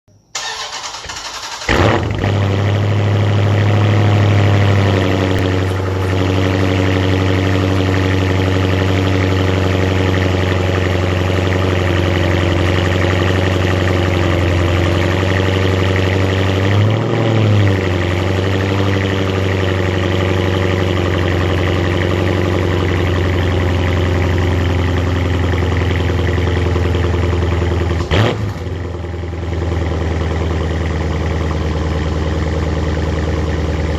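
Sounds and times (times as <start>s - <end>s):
car engine cranking and idling: 0.3s - 33.9s.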